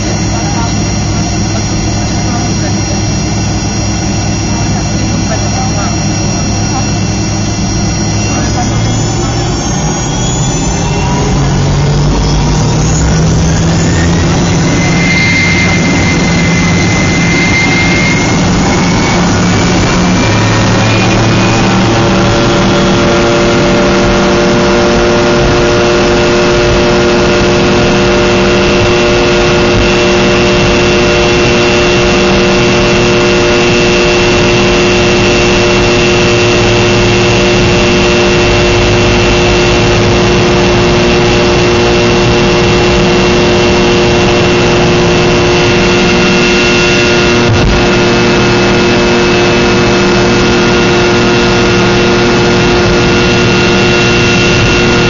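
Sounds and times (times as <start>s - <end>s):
engine whining tones: 0.0s - 55.0s
jet engine roar: 0.0s - 55.0s.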